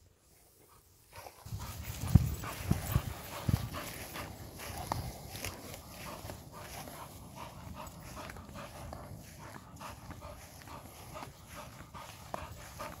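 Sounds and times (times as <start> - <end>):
dog panting: 0.5 - 13.0.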